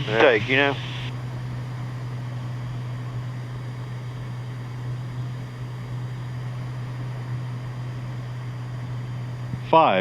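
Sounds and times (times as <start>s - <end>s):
airplane engine and propeller droning: 0.0s - 10.0s.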